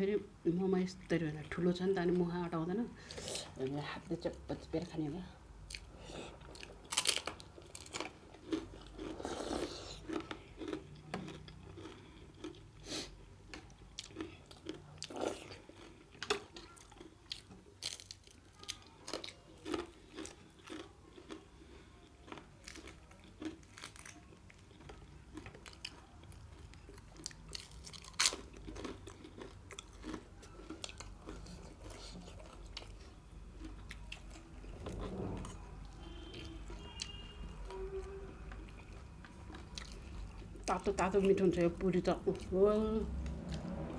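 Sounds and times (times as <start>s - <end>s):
person chewing food: 5.7s - 41.1s.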